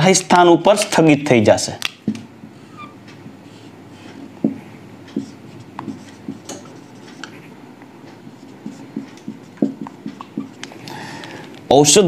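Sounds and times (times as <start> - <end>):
marker pen on whiteboard: 1.9 - 12.0.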